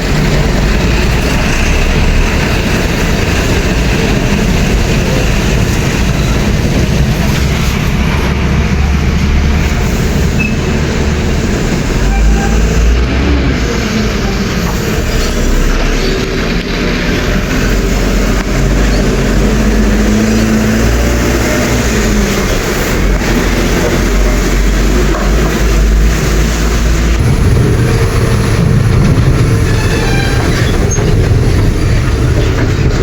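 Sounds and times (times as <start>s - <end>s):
heavy road traffic rumble: 0.0s - 33.0s.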